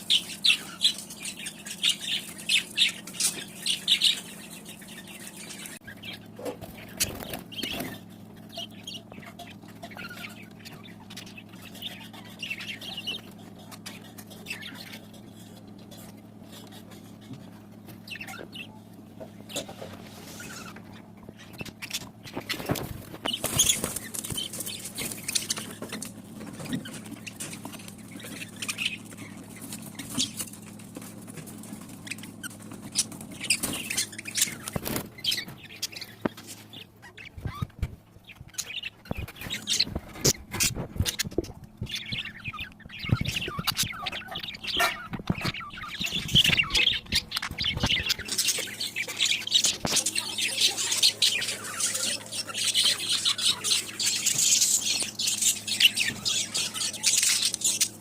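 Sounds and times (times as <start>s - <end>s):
budgerigars chirping and squawking: 0.0s - 58.0s.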